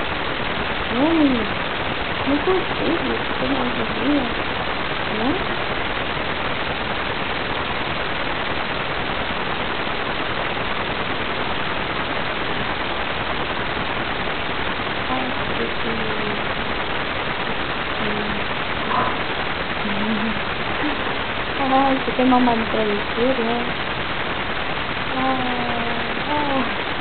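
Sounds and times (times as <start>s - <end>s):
steady static hiss: 0.0s - 27.0s.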